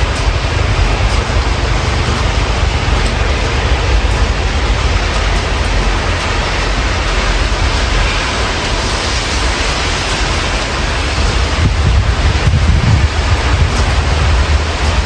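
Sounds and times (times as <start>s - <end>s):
low rumble: 0.0s - 15.0s
steady rain hissing: 0.0s - 15.0s.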